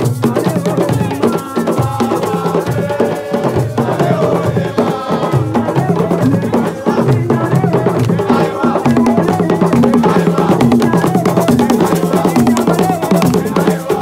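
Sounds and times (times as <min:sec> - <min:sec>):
frame drum: 0:00.0 - 0:14.0
percussion ensemble drumming: 0:00.0 - 0:14.0.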